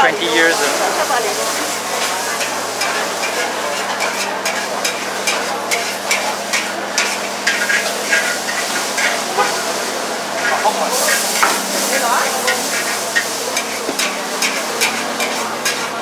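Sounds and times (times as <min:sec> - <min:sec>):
noodles sizzling in a wok: 0:00.0 - 0:16.0
metal spatula scraping a wok: 0:00.6 - 0:16.0.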